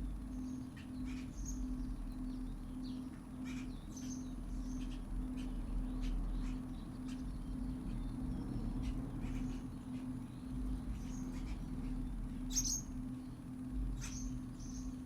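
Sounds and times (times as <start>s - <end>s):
pulsing tone: 0.0s - 15.0s
small birds chirping: 0.0s - 15.0s
steady low hum: 0.0s - 15.0s.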